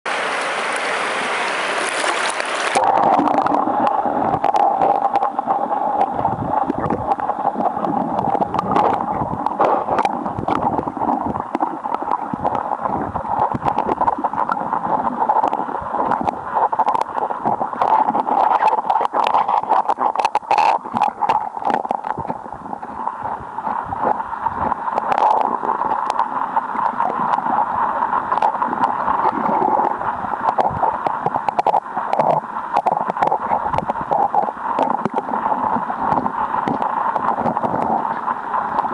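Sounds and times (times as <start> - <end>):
muffled underwater water rush: 0.1 - 38.9
small underwater clicks and knocks: 1.8 - 38.9.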